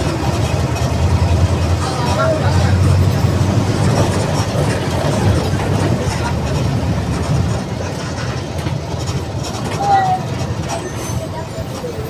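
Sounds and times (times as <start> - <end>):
bus diesel engine rumbling: 0.0 - 12.0.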